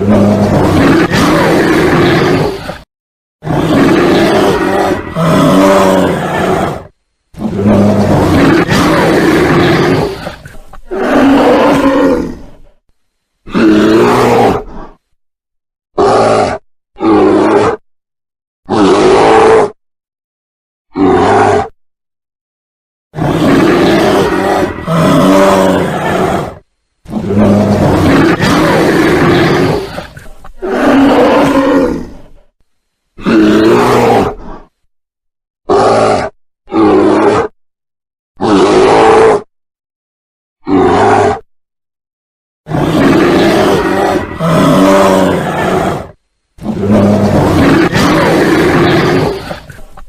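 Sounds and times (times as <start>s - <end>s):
bear roaring and growling: 0.0s - 12.8s, 13.4s - 15.1s, 16.0s - 17.8s, 18.7s - 19.8s, 20.9s - 21.8s, 23.1s - 32.6s, 33.2s - 34.8s, 35.7s - 37.6s, 38.4s - 39.5s, 40.6s - 41.5s, 42.7s - 50.0s.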